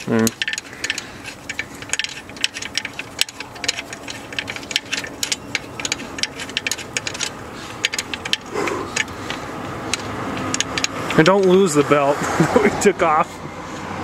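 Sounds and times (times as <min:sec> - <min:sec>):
ratchet wrench clicking: 0:00.0 - 0:12.4.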